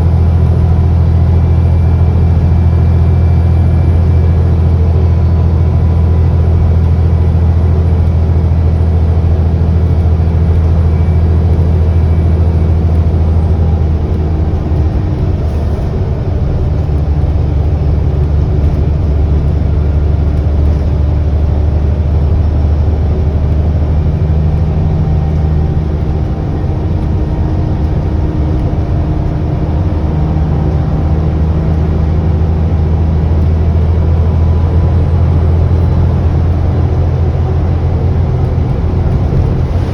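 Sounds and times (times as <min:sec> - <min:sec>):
bus diesel engine drone: 0:00.0 - 0:39.9
faint high turbo whine: 0:00.0 - 0:39.9.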